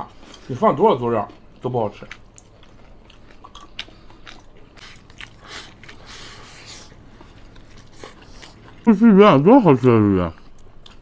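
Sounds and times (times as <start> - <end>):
people chewing and biting: 0.0 - 9.2, 10.3 - 11.0.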